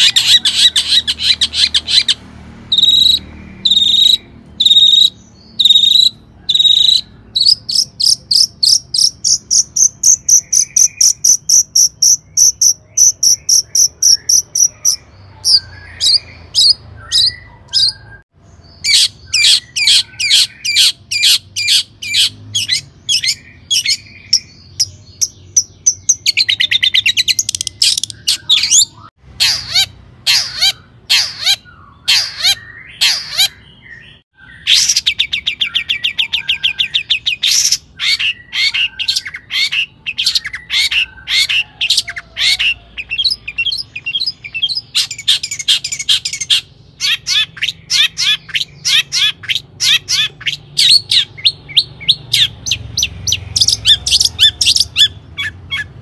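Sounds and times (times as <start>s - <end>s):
bird singing harsh chatter: 0.0s - 56.0s.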